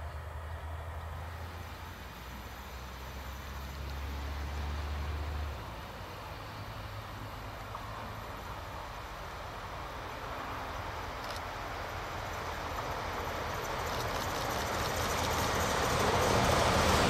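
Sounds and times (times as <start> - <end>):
distant train rumble and hiss: 0.0 - 17.0.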